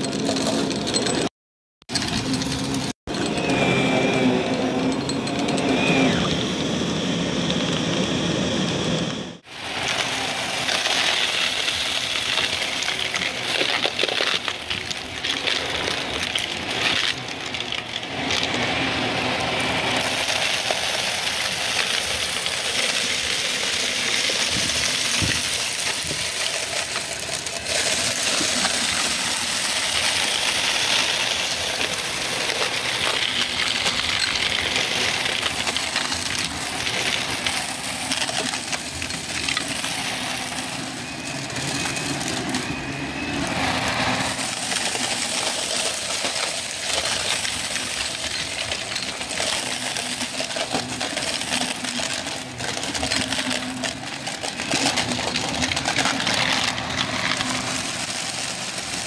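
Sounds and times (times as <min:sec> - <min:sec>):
vacuum cleaner motor running: 0:03.1 - 0:59.0
debris rattling through vacuum hose: 0:09.4 - 0:59.0.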